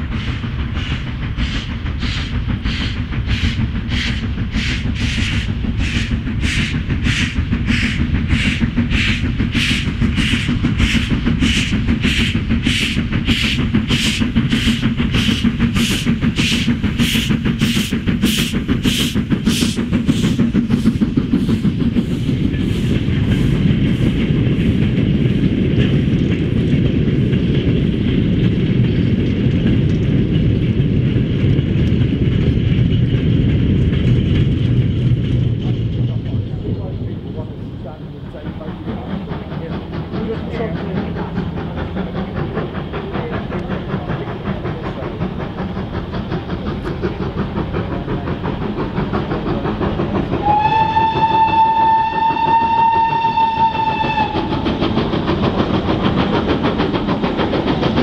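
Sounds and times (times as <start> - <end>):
steam locomotive chuffing: 0.0 - 58.0
wagons rumbling on rails: 0.0 - 58.0.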